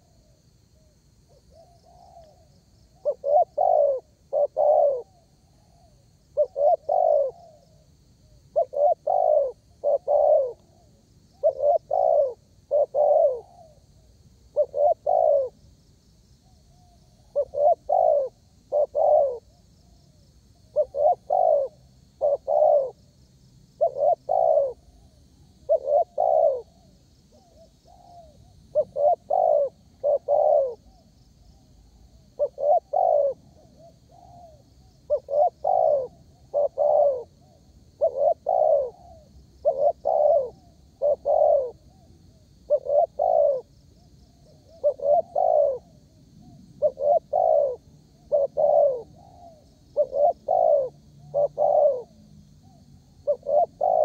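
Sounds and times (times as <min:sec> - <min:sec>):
dove cooing: 0:00.0 - 0:15.6, 0:16.4 - 0:20.0, 0:20.6 - 0:23.0, 0:23.7 - 0:54.0
faint high twittering: 0:00.8 - 0:54.0.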